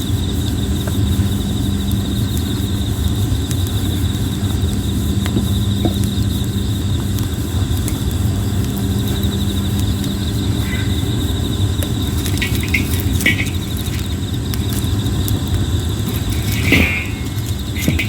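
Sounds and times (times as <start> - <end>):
insects trilling: 0.0 - 18.0
low fire rumble: 0.0 - 18.0
wood fire crackling and popping: 0.0 - 18.0.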